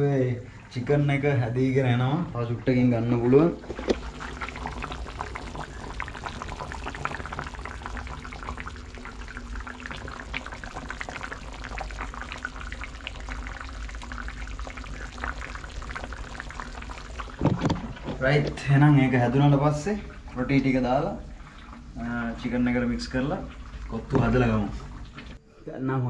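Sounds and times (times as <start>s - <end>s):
curry bubbling and popping: 2.2s - 25.4s.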